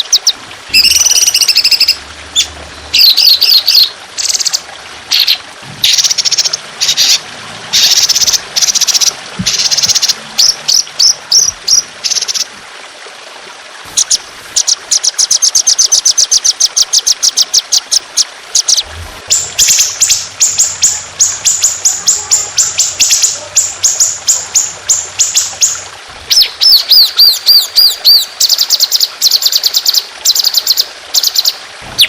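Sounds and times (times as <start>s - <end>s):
songbird buzzy calls and trills: 0.0s - 12.6s, 13.9s - 32.0s
trickling water: 0.0s - 32.0s.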